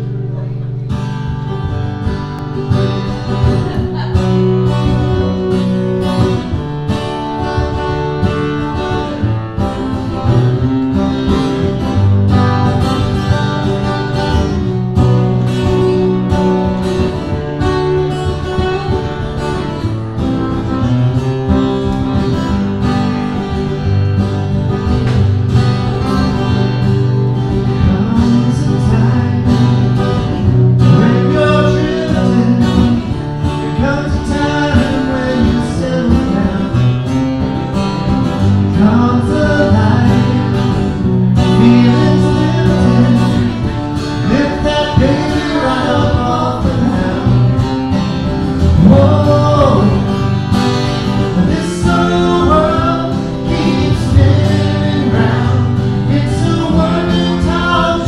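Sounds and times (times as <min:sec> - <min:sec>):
acoustic guitars strummed: 0:00.0 - 0:58.0.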